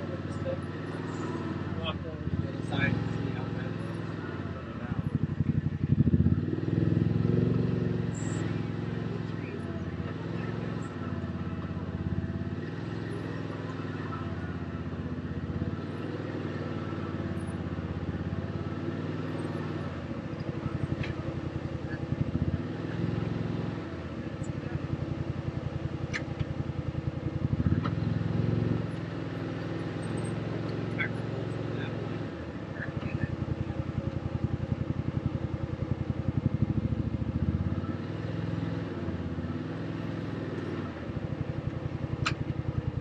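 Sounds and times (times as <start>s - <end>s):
utility vehicle engine revving: 0.0s - 43.0s.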